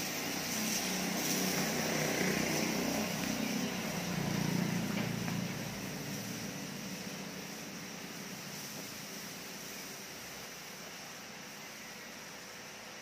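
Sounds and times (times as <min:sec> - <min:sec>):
motor humming with hiss: 0:00.0 - 0:13.0.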